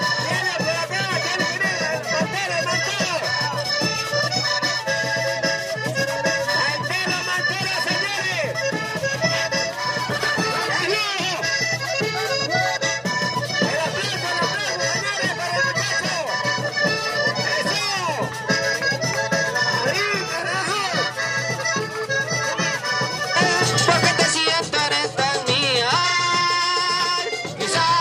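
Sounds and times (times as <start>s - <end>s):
accordion traditional music: 0.0s - 28.0s.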